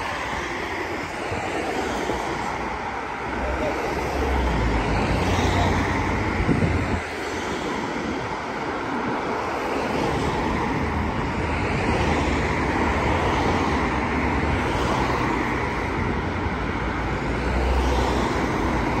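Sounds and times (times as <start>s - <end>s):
wind rumble on microphone: 0.0s - 17.6s
cars passing on road: 0.0s - 19.0s.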